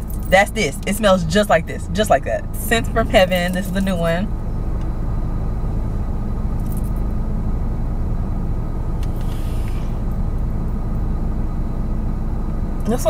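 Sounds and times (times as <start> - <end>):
air conditioning running: 0.0 - 13.0
car engine idling: 0.0 - 13.0.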